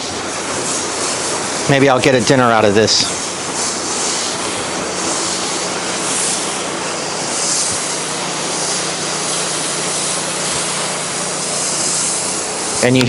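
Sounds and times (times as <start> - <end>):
pressure washer hum: 0.0 - 13.0
water spray hiss: 0.0 - 13.0.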